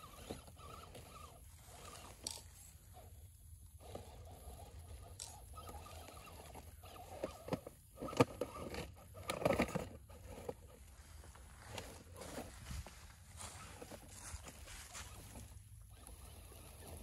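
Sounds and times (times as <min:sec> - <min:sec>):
rc truck crunching over rocks: 0:00.0 - 0:17.0.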